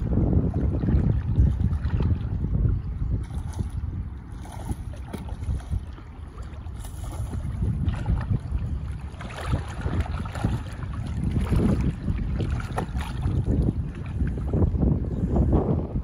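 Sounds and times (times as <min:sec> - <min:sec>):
water sloshing and splashing: 0:00.0 - 0:16.0
wind buffeting microphone: 0:00.0 - 0:16.0.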